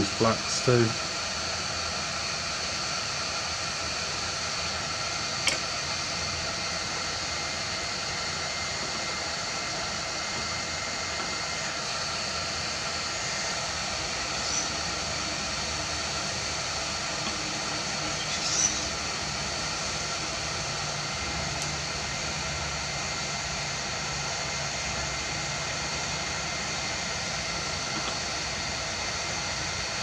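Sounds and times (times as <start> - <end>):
hot air blower hissing: 0.0 - 30.0.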